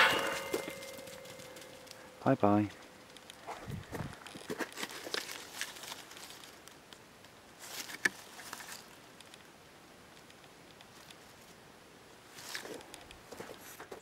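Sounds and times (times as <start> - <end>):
leaves and twigs rustling: 0.0 - 14.0.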